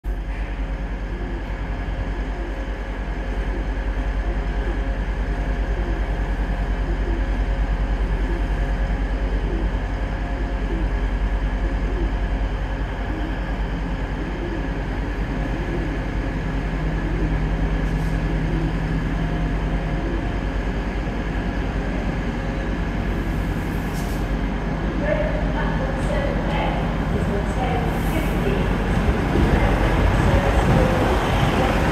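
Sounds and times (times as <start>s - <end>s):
diesel train rumbling: 0.0s - 31.9s.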